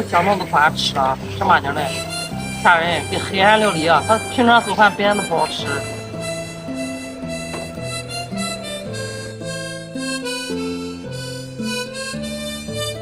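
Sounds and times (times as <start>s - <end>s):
reedy melody over sustained notes: 0.0s - 13.0s.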